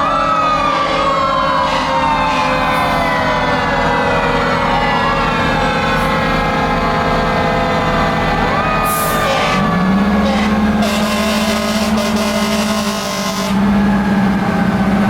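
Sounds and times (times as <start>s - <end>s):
fire truck sirens: 0.0s - 15.0s
truck engines rumbling: 0.0s - 15.0s.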